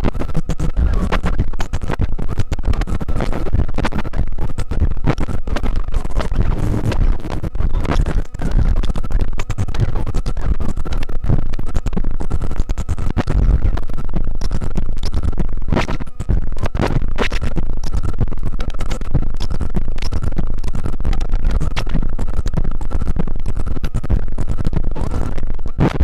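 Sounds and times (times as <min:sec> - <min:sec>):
rapid crackling clicks: 0:00.0 - 0:26.0.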